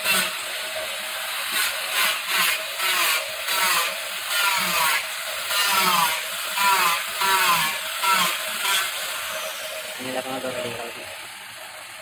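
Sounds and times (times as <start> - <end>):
angle grinder cutting plywood: 0.0 - 11.0.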